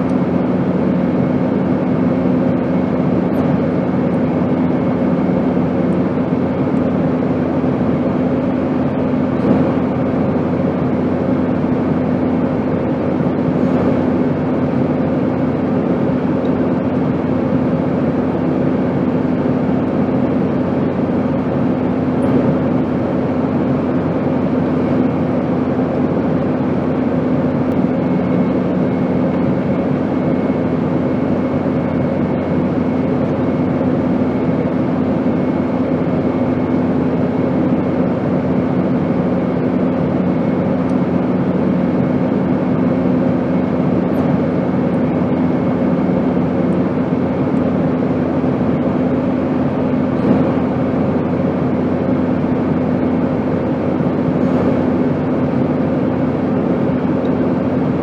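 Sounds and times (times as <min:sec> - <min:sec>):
airplane engine rush and hum: 0:00.0 - 0:58.0
lower hum: 0:00.0 - 0:58.0.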